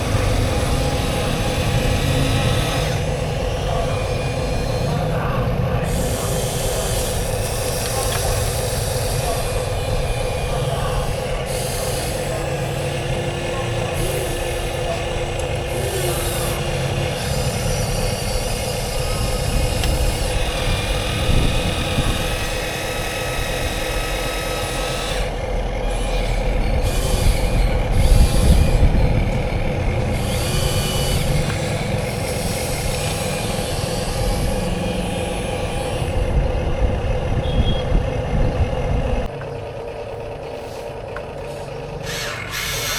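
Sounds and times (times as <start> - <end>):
toy motor whine: 0.0 - 38.2, 40.3 - 42.9
low engine-like rumble: 0.0 - 42.1.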